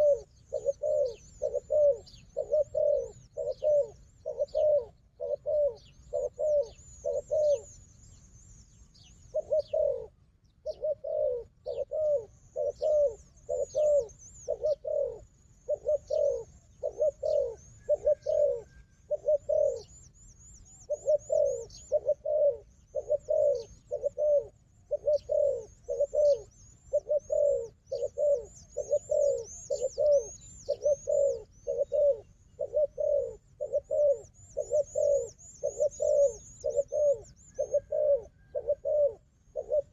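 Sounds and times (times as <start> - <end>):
doves cooing: 0.0 - 7.9, 9.0 - 39.9
small birds chirping: 0.0 - 39.9.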